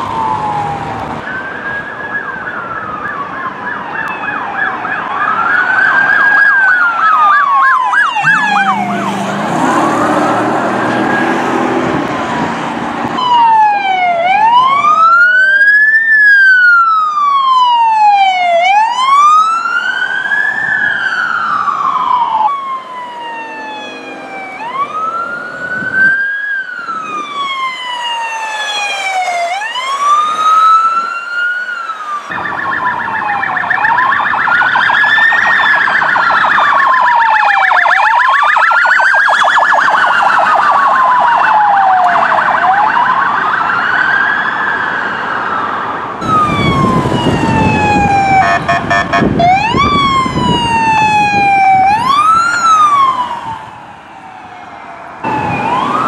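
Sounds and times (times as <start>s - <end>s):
police sirens wailing and yelping: 0.0s - 56.0s.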